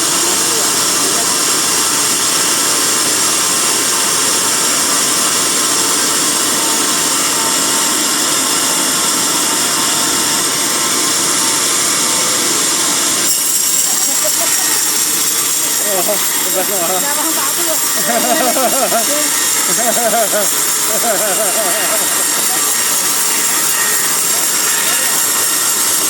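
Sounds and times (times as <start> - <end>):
band saw cutting log: 0.0 - 26.0.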